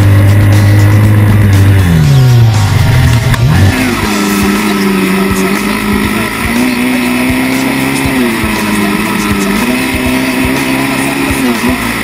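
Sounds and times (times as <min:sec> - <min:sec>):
atv engine running hard: 0:00.0 - 0:12.0.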